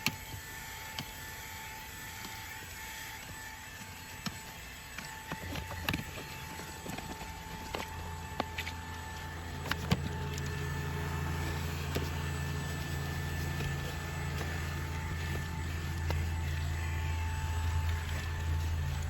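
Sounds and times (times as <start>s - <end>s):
cordless vacuum cleaner humming: 0.0s - 19.0s.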